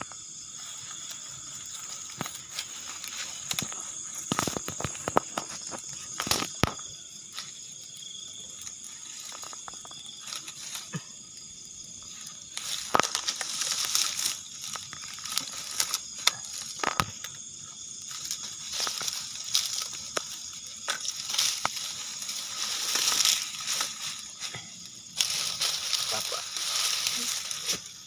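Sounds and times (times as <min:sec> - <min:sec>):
leaves crumpling and rustling: 0:00.5 - 0:11.3, 0:12.0 - 0:17.4, 0:18.0 - 0:28.0
twigs snapping: 0:01.1 - 0:08.0, 0:08.6 - 0:11.4, 0:12.1 - 0:28.0.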